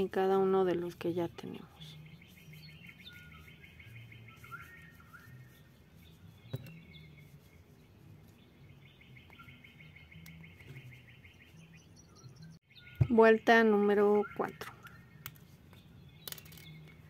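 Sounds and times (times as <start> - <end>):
faint bird chirps: 0.8 - 17.0.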